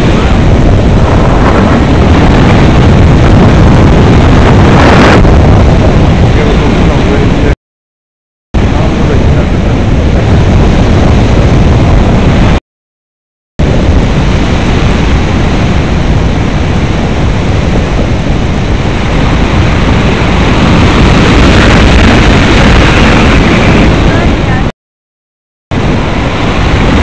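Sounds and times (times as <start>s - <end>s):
wind buffeting microphone: 0.0s - 7.6s, 8.6s - 12.6s, 13.6s - 24.7s, 25.7s - 27.0s.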